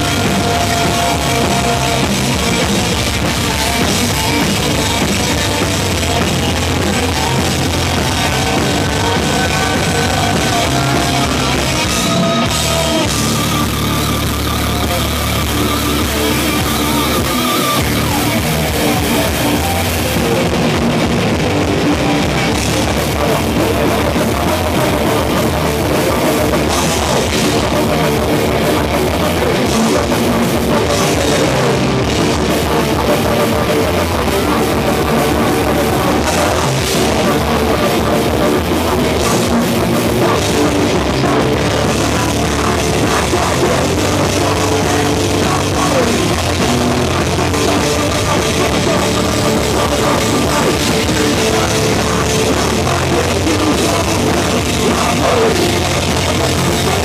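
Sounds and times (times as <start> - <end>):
distorted electric guitars: 0.0 - 57.0
drum kit: 0.0 - 57.0.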